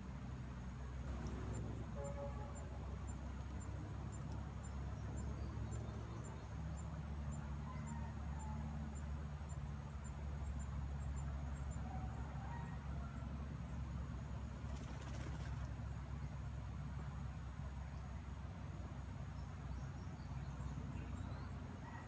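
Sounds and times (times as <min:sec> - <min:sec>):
low steady rumble: 0:00.0 - 0:21.9
crickets droning: 0:00.0 - 0:22.0.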